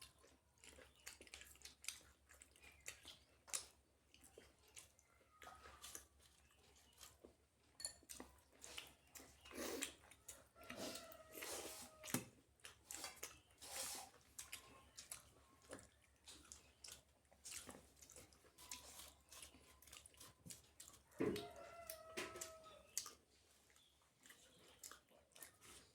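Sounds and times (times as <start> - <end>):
person chewing and smacking: 0.0 - 25.9.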